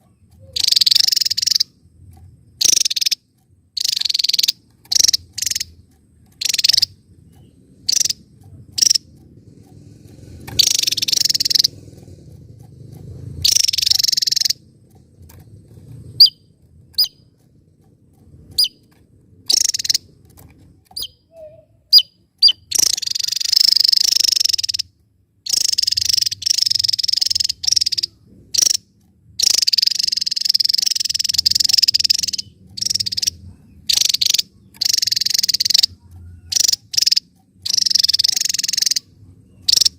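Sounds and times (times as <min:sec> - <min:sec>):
bird singing buzzy song: 0:00.0 - 0:39.9.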